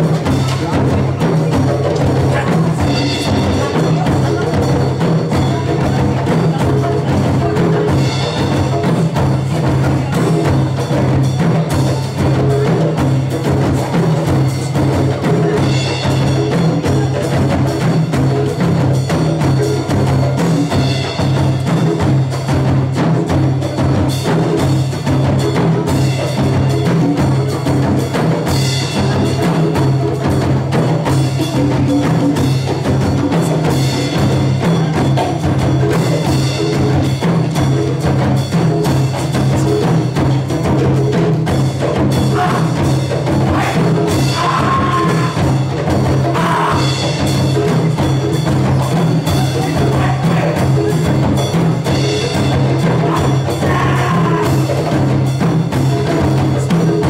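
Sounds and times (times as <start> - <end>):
conga drums: 0.0 - 57.0.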